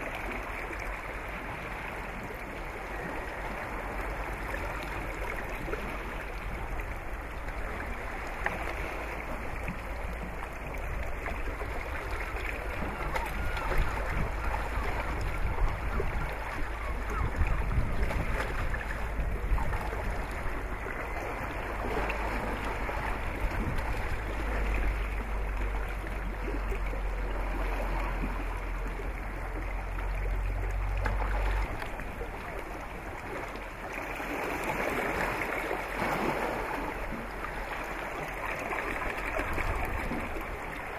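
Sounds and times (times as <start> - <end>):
water splashing along a hull: 0.0 - 40.9
wind rumble on microphone: 0.0 - 40.9.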